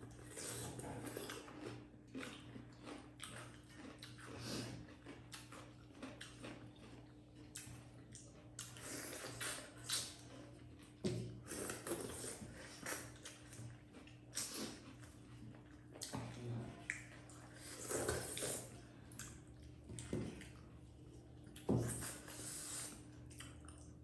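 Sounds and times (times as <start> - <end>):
chewing and lip smacking: 0.1 - 11.0, 11.6 - 22.2, 22.8 - 24.0.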